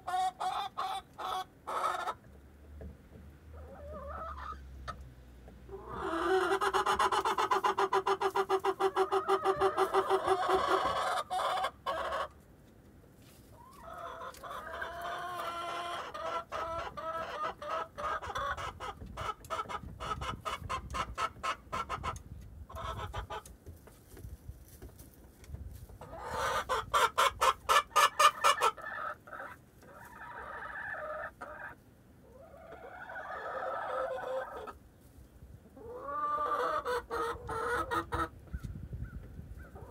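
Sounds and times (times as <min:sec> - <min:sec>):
hens clucking and cackling: 0:00.0 - 0:39.9.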